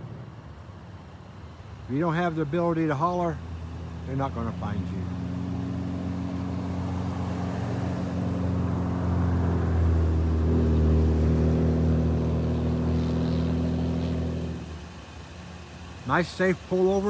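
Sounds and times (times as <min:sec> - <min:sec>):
vehicle engines driving past: 0:00.0 - 0:17.0.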